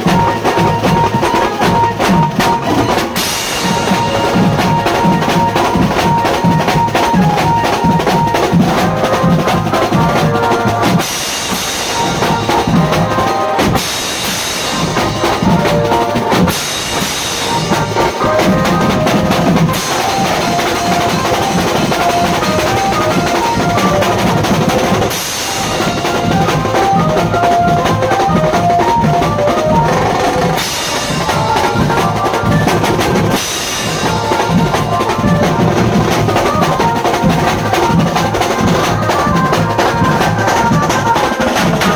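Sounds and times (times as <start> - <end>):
drum-heavy band music: 0.0 - 41.9.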